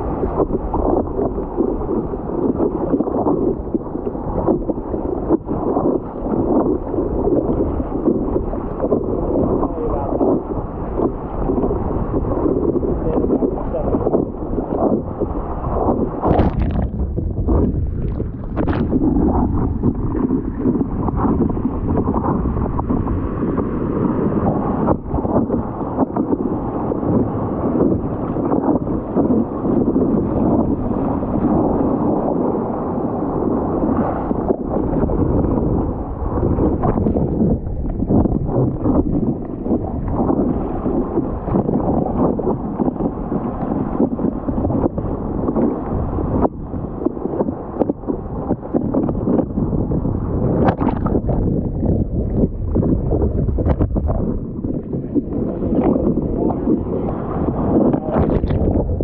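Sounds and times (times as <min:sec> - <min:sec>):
muffled water sloshing and splashing: 0:00.0 - 0:59.0
wind on microphone: 0:00.0 - 0:59.0.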